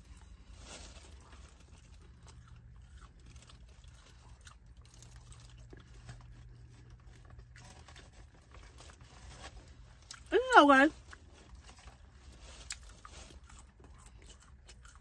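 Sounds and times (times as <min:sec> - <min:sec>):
person chewing food: 0:00.0 - 0:10.3, 0:11.0 - 0:15.0.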